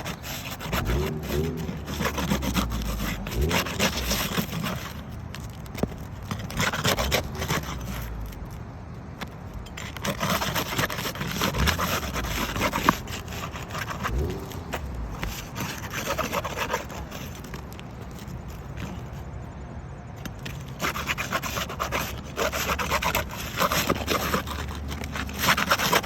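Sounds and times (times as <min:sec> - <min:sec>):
metal tool scraping roof shingles: 0:00.0 - 0:08.6, 0:09.2 - 0:19.3, 0:20.2 - 0:26.0.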